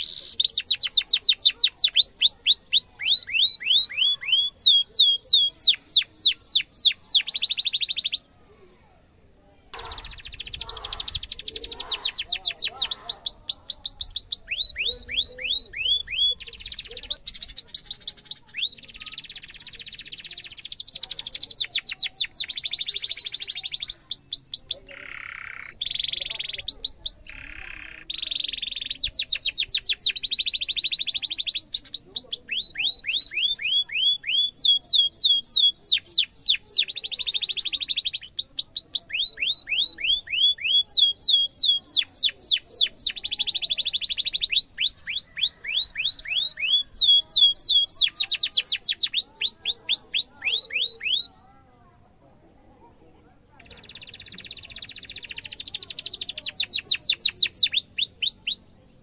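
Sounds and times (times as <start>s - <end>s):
canary singing: 0.0s - 8.3s, 9.8s - 51.4s, 53.5s - 59.0s.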